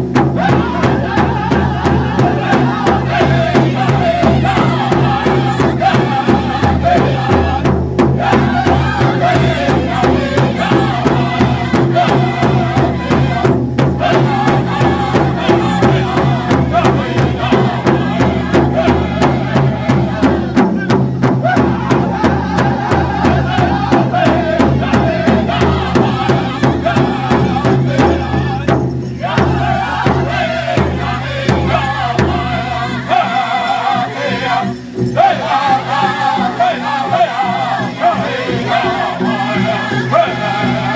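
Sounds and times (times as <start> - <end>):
group singing in chorus: 0.0 - 40.9
steady drumbeat: 0.0 - 40.9.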